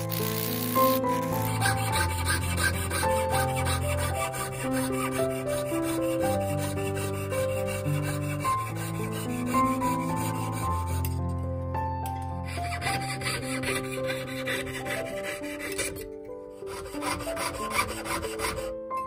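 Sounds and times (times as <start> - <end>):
saw blade cutting metal: 0.0 - 11.2, 12.4 - 18.7
slow background music: 0.0 - 19.0.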